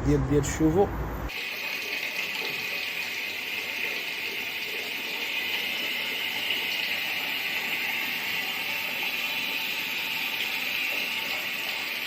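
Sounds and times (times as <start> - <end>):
gas water heater hissing: 0.4 - 12.0.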